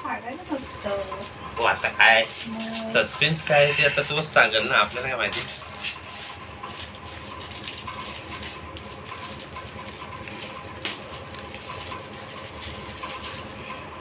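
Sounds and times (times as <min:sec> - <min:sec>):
electric fan humming: 0:00.0 - 0:14.0
wrapping paper crinkling: 0:00.2 - 0:14.0
sharp paper crackle: 0:01.6 - 0:13.8.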